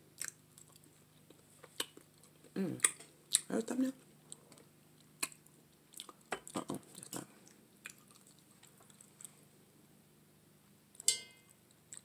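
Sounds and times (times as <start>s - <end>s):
faint chewing: 0.1s - 9.5s, 11.0s - 12.0s.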